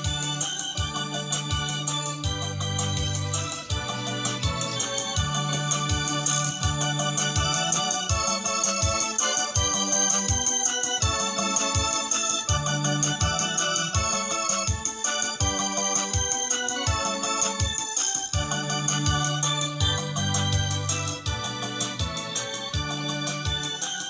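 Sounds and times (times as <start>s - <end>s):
bass accompaniment: 0.0s - 24.0s
drum machine rhythm: 0.0s - 24.0s
keyboard organ chords: 0.0s - 24.0s.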